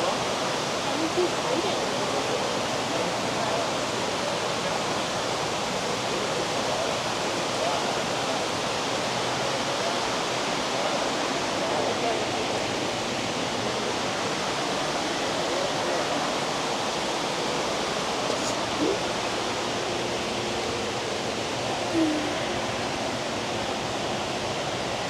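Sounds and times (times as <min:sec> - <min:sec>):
faint voices murmuring: 0:00.0 - 0:23.7
rush of running water: 0:00.0 - 0:25.0.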